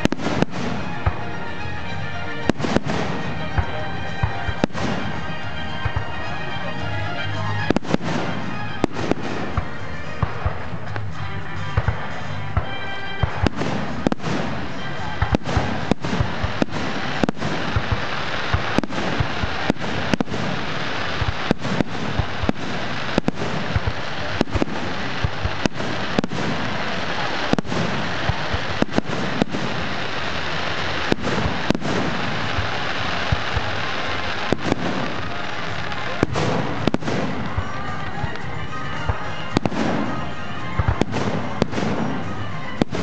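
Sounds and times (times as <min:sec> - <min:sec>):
fireworks crackling and banging: 0:00.0 - 0:43.0.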